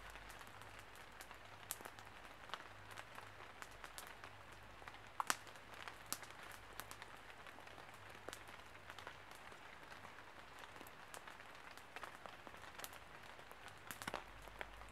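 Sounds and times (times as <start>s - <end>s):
campfire crackling: 0.0s - 14.9s
rain pattering on leaves: 0.0s - 14.9s.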